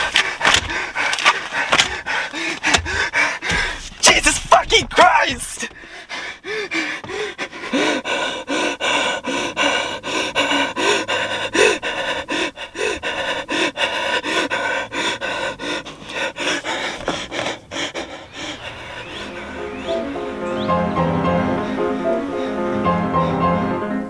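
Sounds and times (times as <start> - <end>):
man panting hard: 0.0 - 4.5, 5.4 - 20.5.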